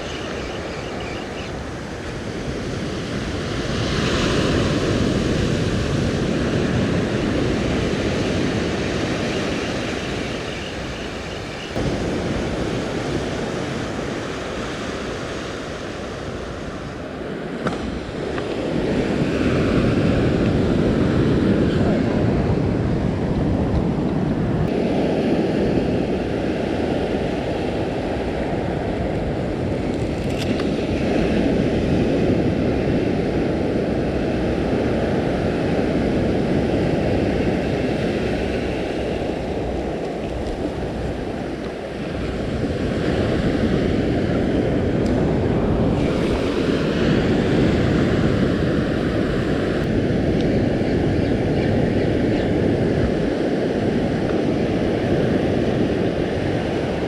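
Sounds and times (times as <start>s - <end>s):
surf washing on beach: 0.0s - 57.0s
wind rumbling on microphone: 0.0s - 57.0s.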